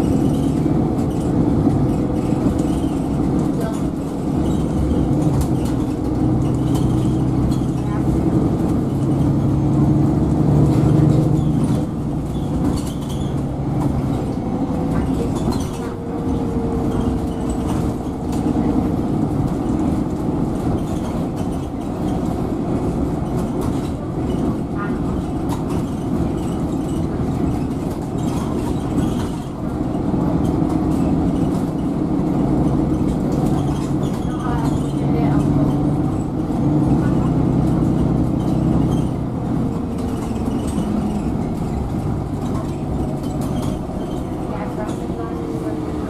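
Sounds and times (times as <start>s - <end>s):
bus engine running: 0.0s - 46.0s
road and tyre noise: 0.0s - 46.0s.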